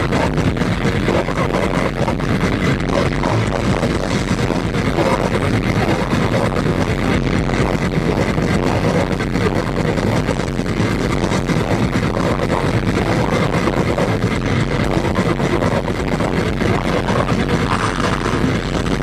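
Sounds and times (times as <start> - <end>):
death metal band playing live: 0.0 - 19.0.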